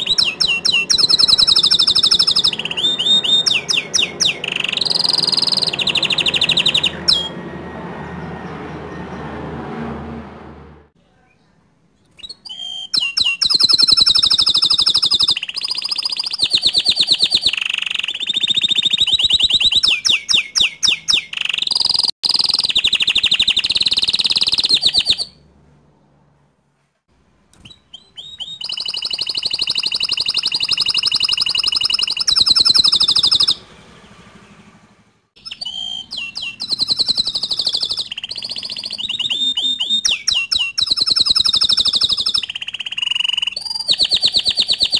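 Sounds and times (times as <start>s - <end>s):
canary singing trills: 0.0s - 9.4s, 12.1s - 25.5s, 27.6s - 34.8s, 35.4s - 44.9s.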